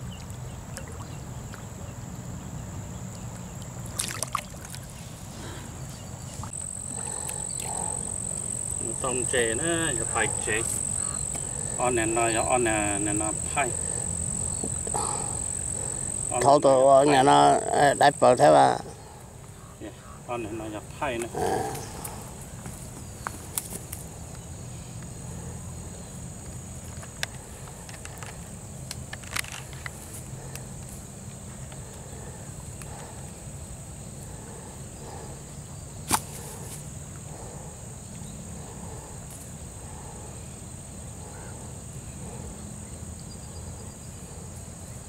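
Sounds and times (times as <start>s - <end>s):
insects buzzing: 0.0s - 45.0s.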